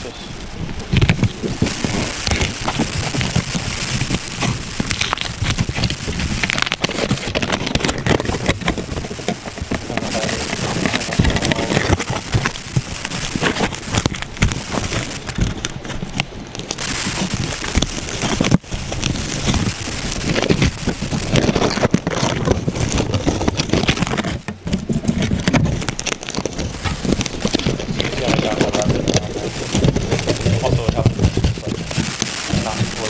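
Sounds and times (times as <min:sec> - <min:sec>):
aluminum foil crinkling: 0:00.0 - 0:33.0.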